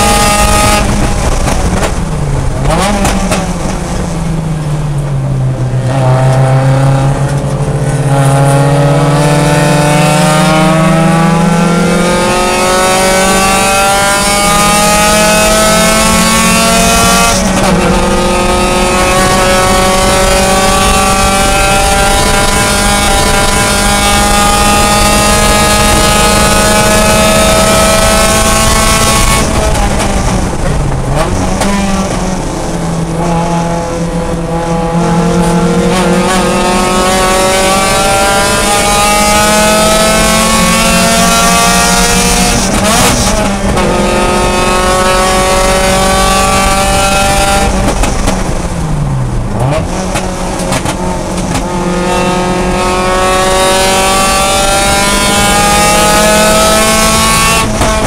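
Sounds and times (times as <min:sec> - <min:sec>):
race car engine at full throttle: 0:00.0 - 0:58.0.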